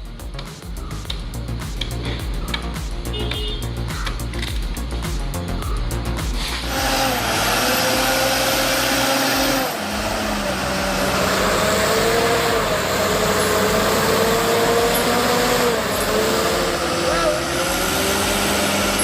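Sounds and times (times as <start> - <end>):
heavy machinery engine running: 0.0 - 19.0
another machine running: 3.4 - 19.0.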